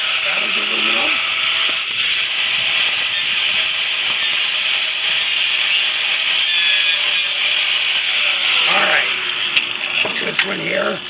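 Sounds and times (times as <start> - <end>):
high-pitched hissing buzz: 0.0 - 9.9.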